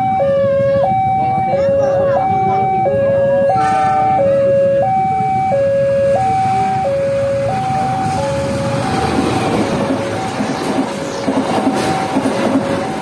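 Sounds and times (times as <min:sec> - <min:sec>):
train passing close by: 0:00.0 - 0:13.0
two-tone warning siren: 0:00.0 - 0:13.0.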